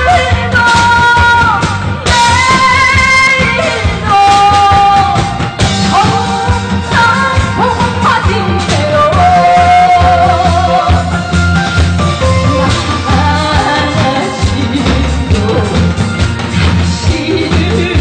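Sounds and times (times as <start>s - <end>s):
bass and drum beat: 0.0s - 18.0s
lead melody with sliding notes: 0.0s - 18.0s.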